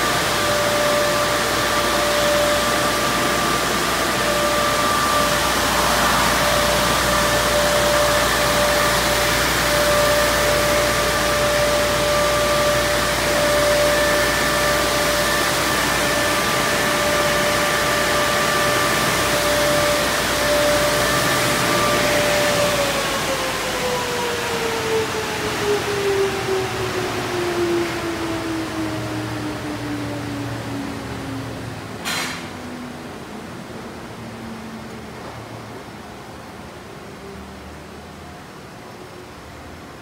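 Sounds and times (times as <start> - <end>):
motor whine: 0.0 - 32.0
dryer blowers rushing air: 0.0 - 40.0.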